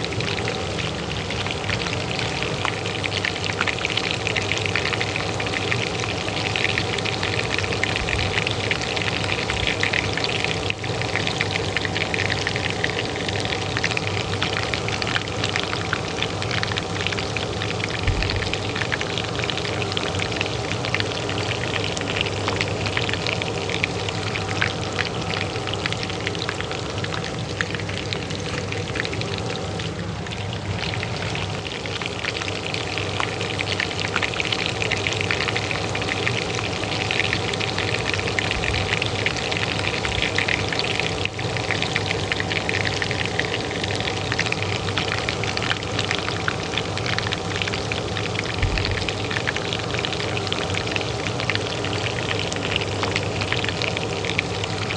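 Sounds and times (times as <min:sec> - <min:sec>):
hot oil crackling and spitting: 0:00.0 - 0:54.9
range hood fan humming: 0:00.0 - 0:54.9.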